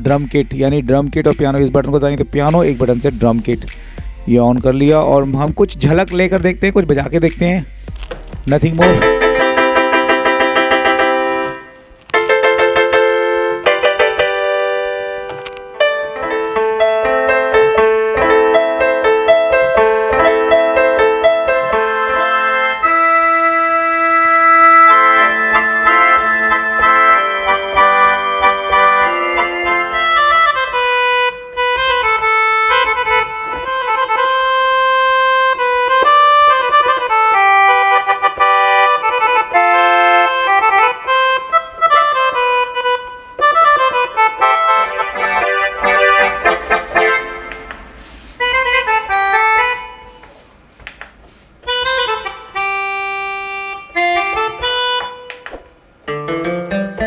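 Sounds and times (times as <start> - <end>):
mini keyboard playing a melody: 0.0 - 50.4, 51.6 - 57.0.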